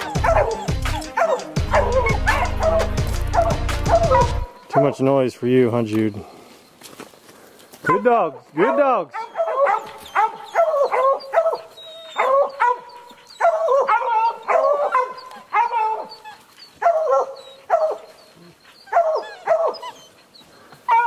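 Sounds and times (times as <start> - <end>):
hounds barking: 0.0 - 5.1, 7.9 - 21.0.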